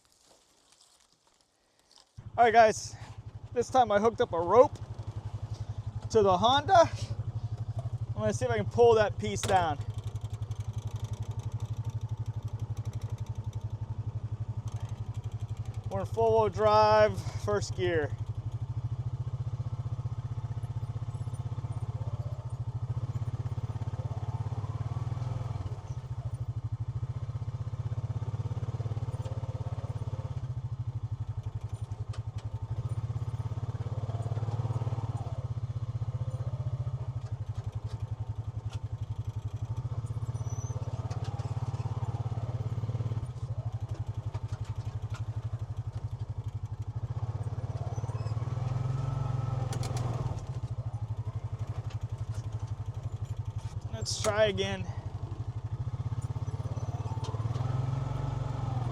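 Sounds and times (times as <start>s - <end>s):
utility vehicle engine revving under load: 2.2s - 58.9s.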